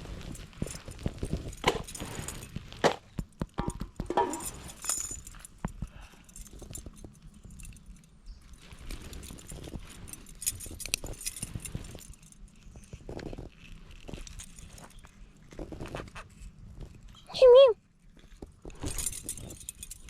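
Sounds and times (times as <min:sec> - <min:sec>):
light handling clicks and rustles: 0:00.0 - 0:20.0.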